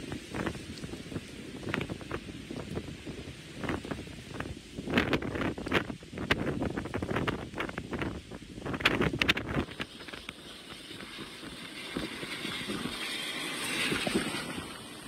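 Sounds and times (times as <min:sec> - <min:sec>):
car tyres hissing on wet road: 0:00.0 - 0:15.0
driving rain: 0:00.0 - 0:15.0
wind buffeting microphone: 0:00.0 - 0:15.0.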